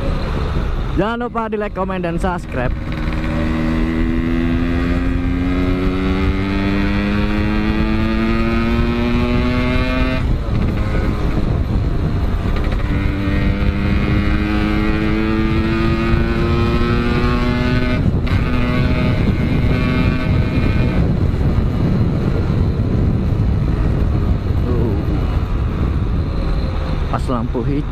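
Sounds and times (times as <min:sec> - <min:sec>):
wind and road noise: 0:00.0 - 0:27.9
motorcycle engine accelerating: 0:01.9 - 0:27.1.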